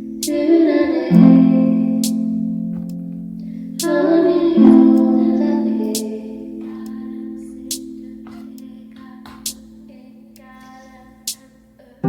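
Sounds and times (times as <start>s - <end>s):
held low chord: 0.0s - 10.8s.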